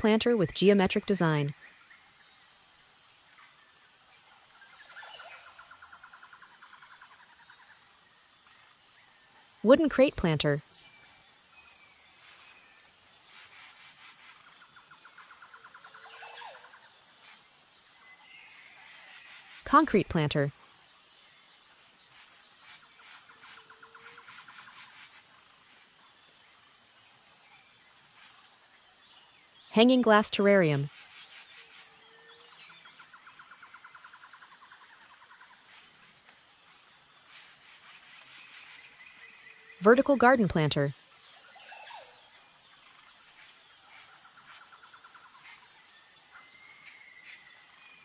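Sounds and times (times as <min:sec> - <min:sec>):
high insect-like tone: 0:00.1 - 0:40.2.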